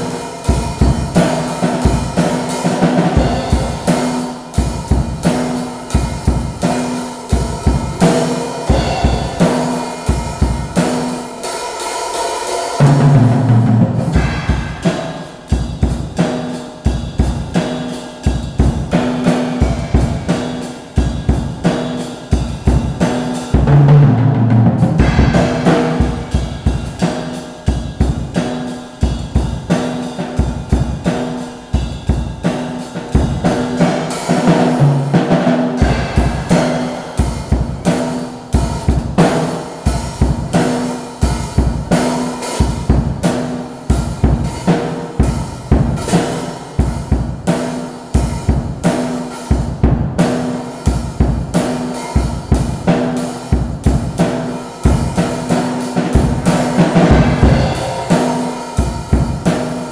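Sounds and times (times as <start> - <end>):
drum kit playing: 0.0 - 59.9.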